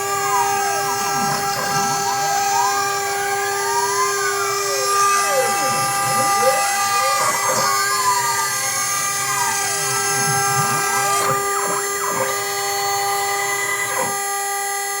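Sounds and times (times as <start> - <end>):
motor pitch sweeping: 0.0 - 14.7
router steady whine: 0.0 - 15.0.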